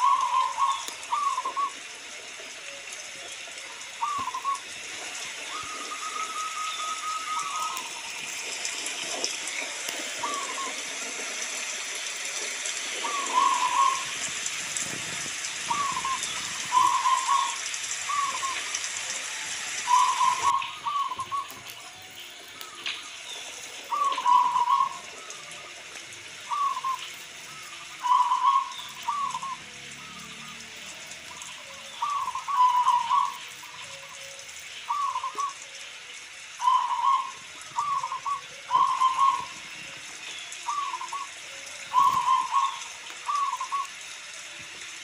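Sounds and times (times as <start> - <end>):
dove cooing: 0.0 - 11.3, 12.3 - 44.6
rain hissing: 0.0 - 45.0.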